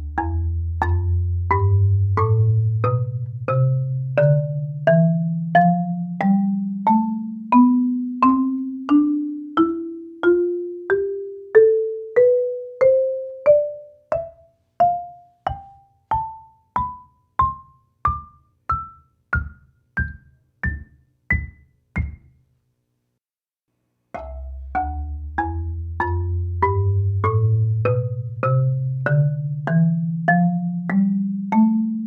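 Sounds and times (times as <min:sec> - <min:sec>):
marimba playing ascending scale: 0:00.0 - 0:22.3, 0:24.2 - 0:32.0.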